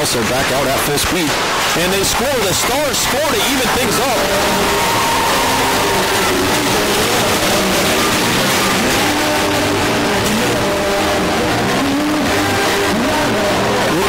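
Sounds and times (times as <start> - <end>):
crowd cheering and shouting: 0.0 - 14.0.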